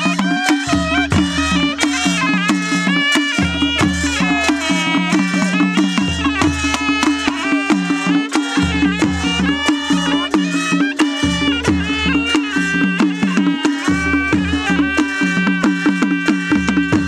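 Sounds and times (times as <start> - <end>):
kettle drums steady beat: 0.0 - 17.0
reed pipe melody: 0.0 - 17.0.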